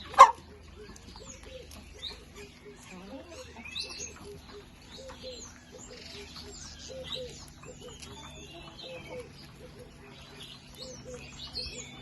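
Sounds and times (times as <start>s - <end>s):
low cooing bird calls: 0.0s - 12.0s
small birds chirping and whistling: 0.0s - 12.0s.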